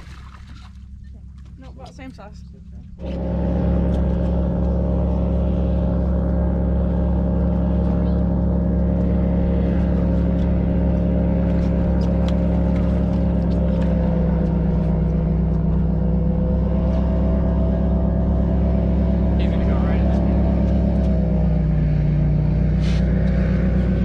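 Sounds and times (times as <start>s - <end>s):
airboat engine idling: 0.0s - 24.0s.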